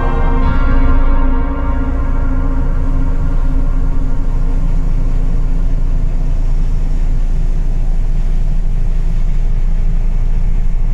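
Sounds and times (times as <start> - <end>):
bus engine and road rumble: 0.0 - 10.9.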